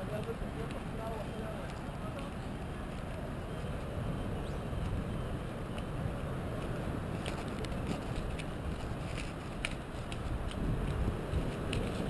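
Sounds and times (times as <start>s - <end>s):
low wind rumble on microphone: 0.0s - 12.0s.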